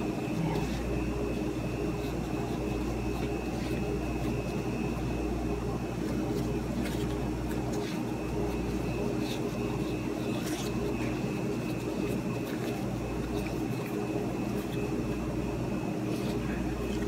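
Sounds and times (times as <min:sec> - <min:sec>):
machine hum with high whine: 0:00.0 - 0:17.0
soft scrapes of dough in breadcrumbs: 0:00.0 - 0:17.0.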